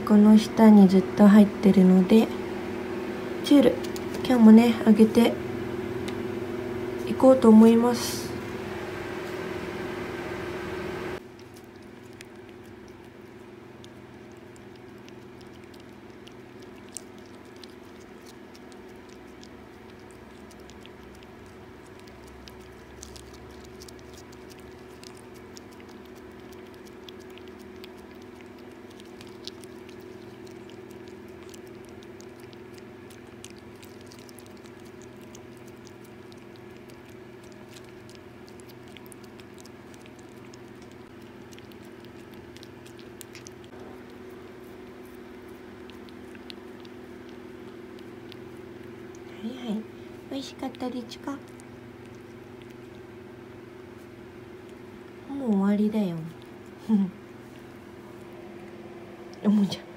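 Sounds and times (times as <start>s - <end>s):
steady low hum: 0.0s - 59.9s
cat licking: 2.3s - 5.2s, 8.0s - 59.9s.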